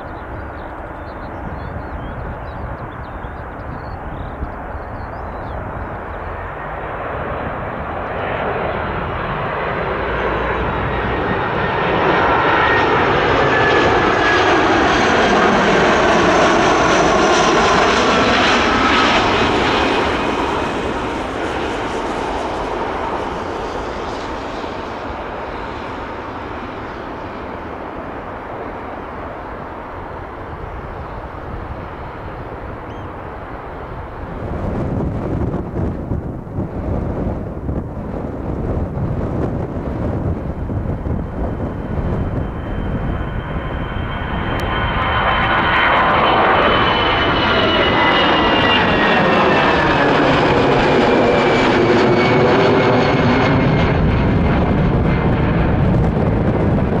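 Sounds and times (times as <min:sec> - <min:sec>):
airliner jet engines passing: 0:00.0 - 0:57.0.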